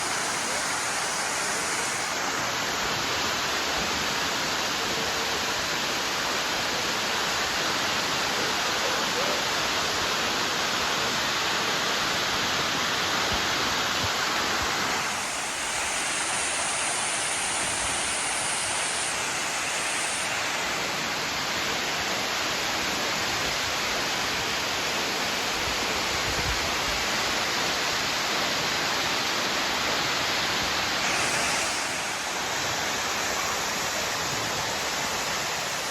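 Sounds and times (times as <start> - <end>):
waterfall rushing: 0.0 - 8.7, 9.6 - 35.9.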